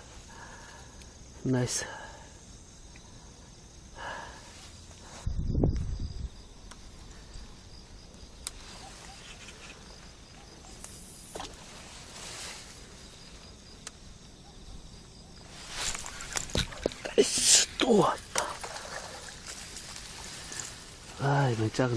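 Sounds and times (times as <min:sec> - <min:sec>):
insects chirping: 0:00.0 - 0:21.9.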